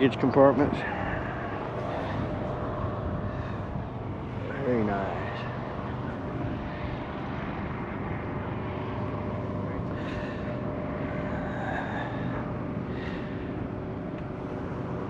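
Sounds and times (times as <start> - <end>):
airfield background rumble: 0.0 - 15.0
faint constant hum: 0.0 - 15.0.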